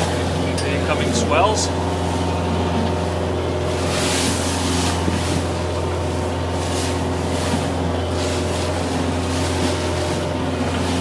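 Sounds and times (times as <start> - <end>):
boat engine droning: 0.0 - 11.0
rushing water: 0.0 - 11.0.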